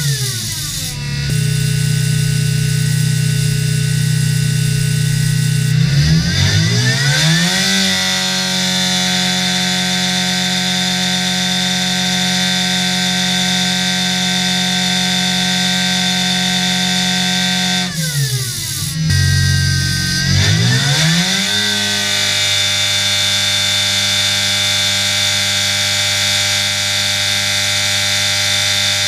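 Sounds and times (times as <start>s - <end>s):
supercharged car engine revving: 0.0s - 29.0s.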